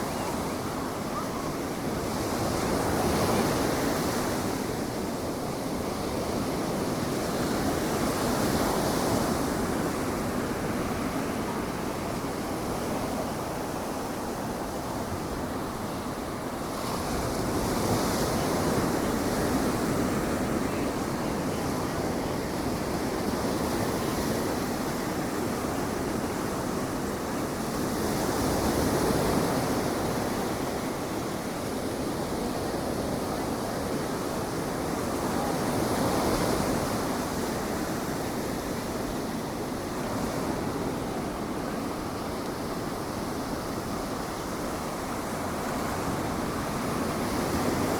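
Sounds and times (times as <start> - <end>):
ocean waves breaking on beach: 0.0 - 47.9.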